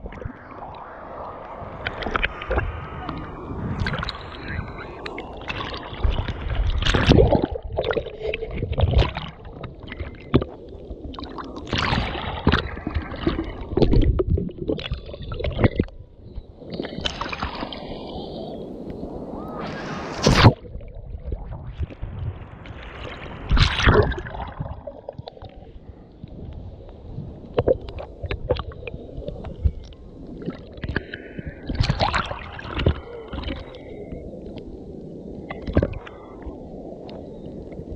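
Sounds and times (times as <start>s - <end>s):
muffled rumbles of water: 0.0s - 37.9s
water lapping and sloshing: 0.0s - 37.9s
water splashes and gurgles: 0.0s - 37.9s.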